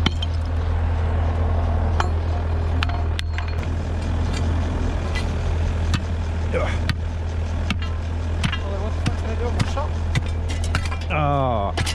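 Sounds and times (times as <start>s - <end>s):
truck engine idling: 0.0s - 11.9s.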